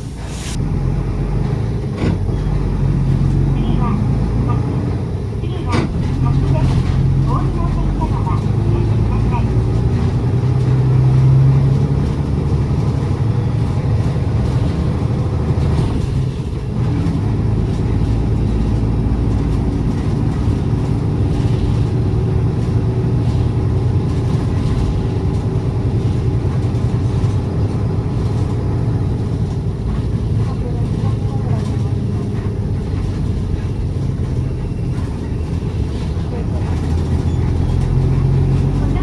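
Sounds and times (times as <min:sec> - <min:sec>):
bus engine droning hum: 0:00.0 - 0:39.0.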